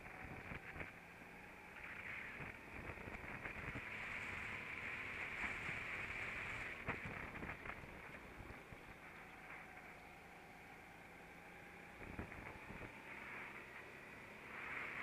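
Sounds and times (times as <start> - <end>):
go-kart engine and wind noise: 0.0 - 15.0.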